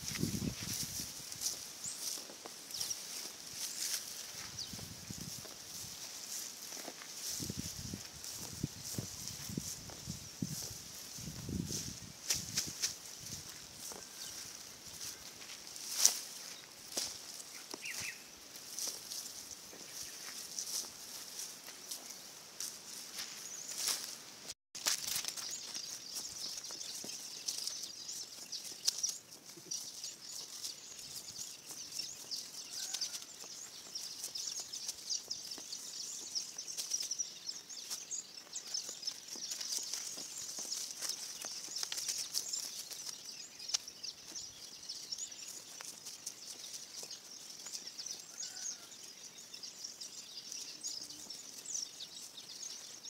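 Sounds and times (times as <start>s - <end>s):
dry plants rustling and crackling: 0.0s - 53.0s.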